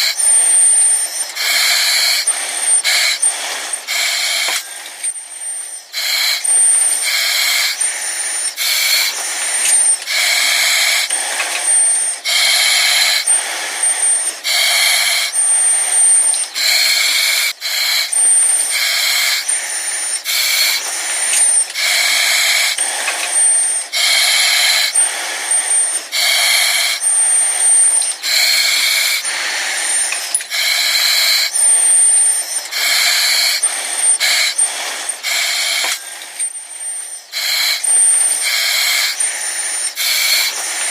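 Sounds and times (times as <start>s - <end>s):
hissing breaths through oxygen mask: 0.0s - 40.9s.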